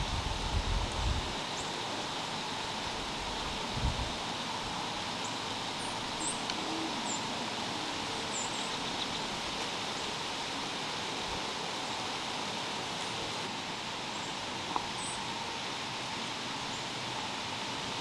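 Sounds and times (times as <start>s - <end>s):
woods ambience hiss: 0.0s - 18.0s.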